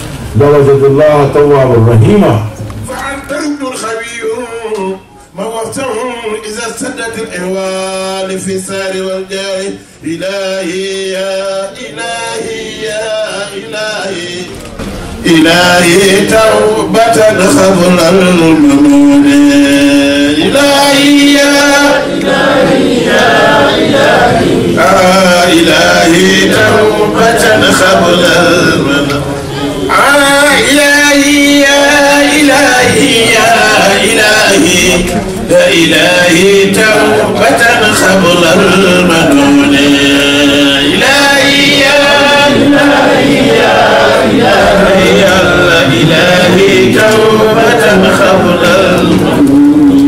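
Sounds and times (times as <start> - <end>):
men chanting devotional verses: 0.4 - 50.0.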